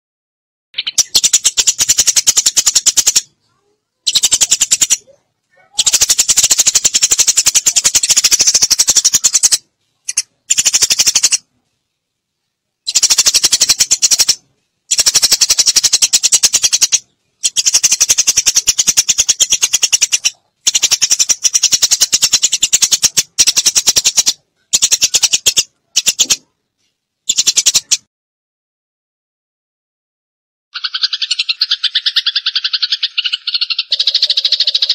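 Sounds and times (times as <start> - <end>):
sparrow chattering chirps: 0.8 - 11.5, 12.8 - 26.5, 27.3 - 28.0, 30.8 - 34.9.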